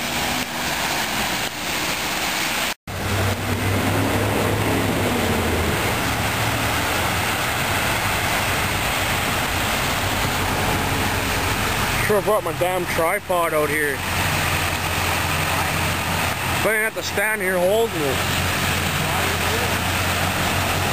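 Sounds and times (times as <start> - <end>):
cars splashing through floodwater: 0.0 - 20.9
low engine hum: 0.0 - 20.9.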